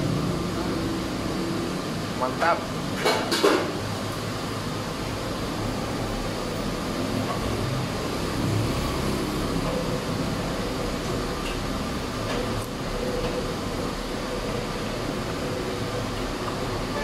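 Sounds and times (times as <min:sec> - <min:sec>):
mechanical hum and hiss: 0:00.0 - 0:17.0.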